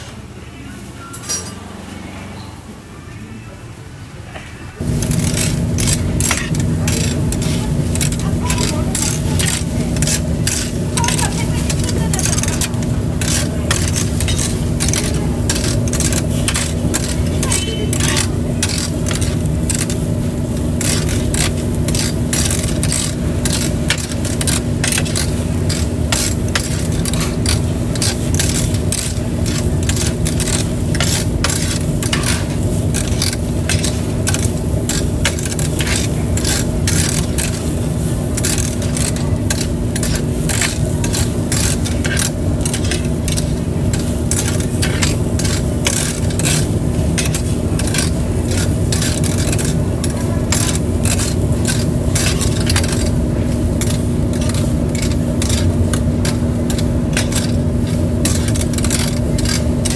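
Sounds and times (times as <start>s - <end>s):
constant low hum: 4.7s - 59.9s
food sizzling: 4.8s - 59.9s
metal tongs scraping grill grate: 4.8s - 59.9s.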